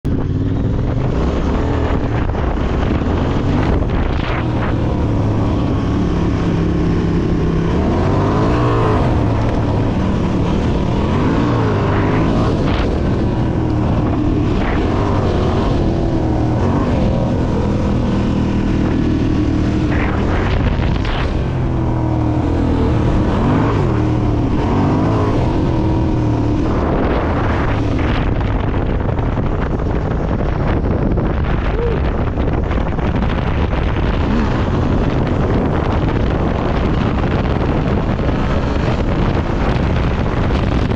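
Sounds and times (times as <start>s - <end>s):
motorcycle engine running: 0.0s - 40.9s
wind and tyre noise: 0.0s - 40.9s.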